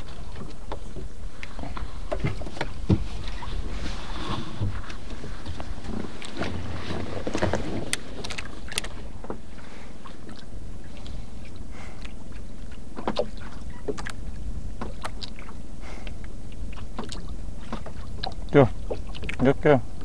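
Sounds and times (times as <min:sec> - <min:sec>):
boat engine low rumble: 0:00.0 - 0:20.0.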